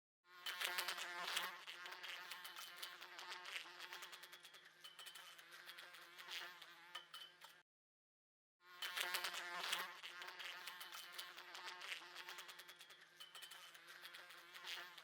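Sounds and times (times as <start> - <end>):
fly buzzing: 0.3 - 7.6, 8.7 - 15.0
fly tapping against glass: 0.7 - 7.6, 9.0 - 15.0.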